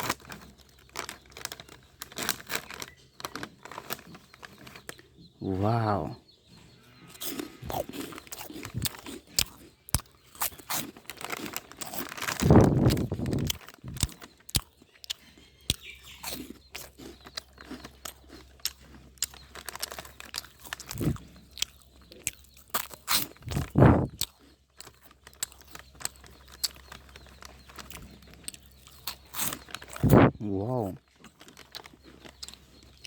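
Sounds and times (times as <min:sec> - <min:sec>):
crunching: 0:00.0 - 0:05.0, 0:07.0 - 0:33.0.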